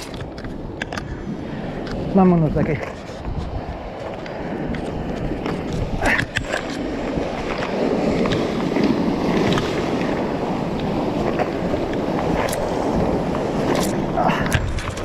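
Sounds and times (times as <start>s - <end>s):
surf breaking on rocks: 0.0s - 15.0s.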